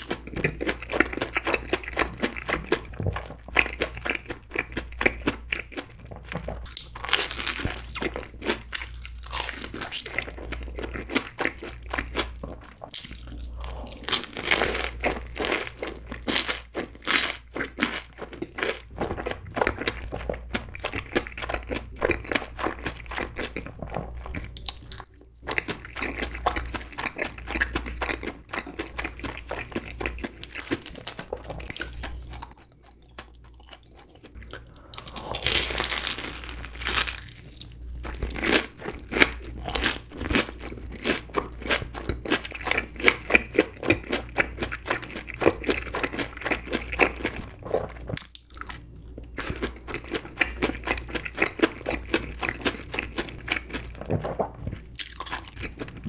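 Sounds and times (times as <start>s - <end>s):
crunchy food chewing: 0.0s - 56.0s.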